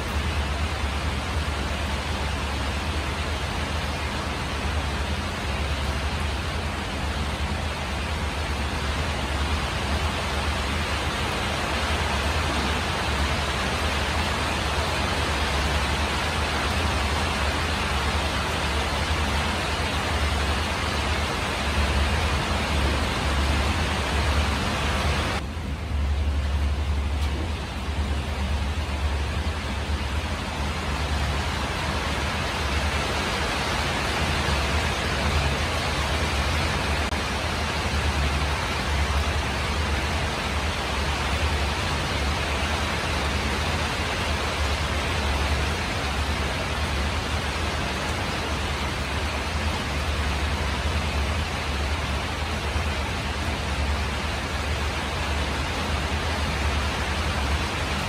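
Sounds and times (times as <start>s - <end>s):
rain on a tin roof: 0.0s - 58.0s.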